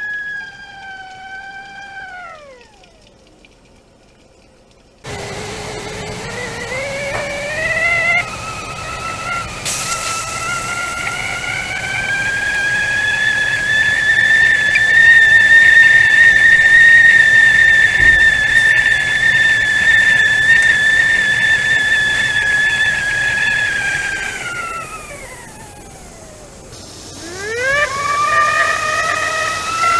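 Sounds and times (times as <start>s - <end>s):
tea kettle whistling: 0.0s - 3.0s, 5.1s - 29.9s.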